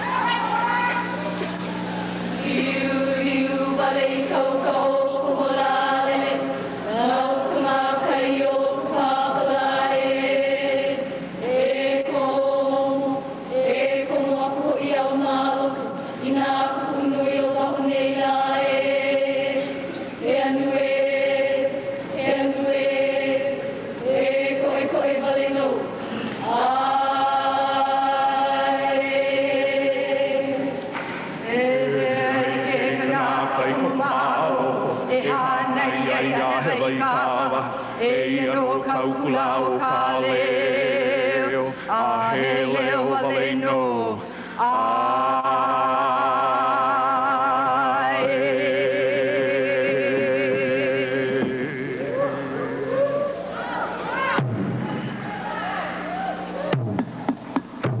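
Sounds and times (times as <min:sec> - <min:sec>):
women chanting: 0:00.0 - 0:01.4, 0:02.4 - 0:30.7, 0:31.4 - 0:54.4.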